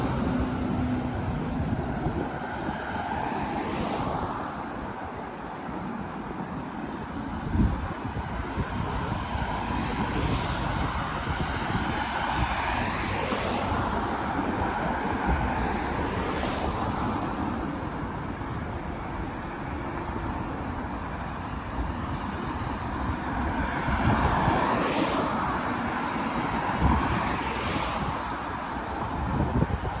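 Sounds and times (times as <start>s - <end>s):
tyres hissing on wet road: 0.0s - 4.7s, 8.9s - 29.1s
background traffic: 0.0s - 30.0s.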